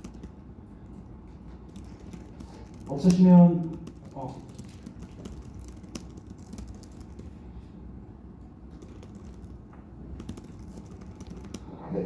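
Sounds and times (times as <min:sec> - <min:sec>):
laptop keyboard typing: 0:00.0 - 0:07.5, 0:08.4 - 0:11.8
low room hum: 0:00.0 - 0:12.0.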